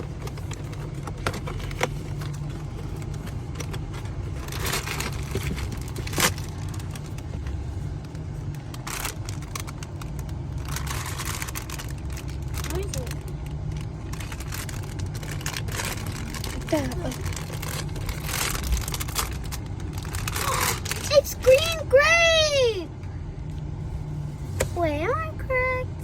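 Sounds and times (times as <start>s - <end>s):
packaging rustling and crinkling: 0.0s - 21.6s
steady low rumble: 0.0s - 26.0s.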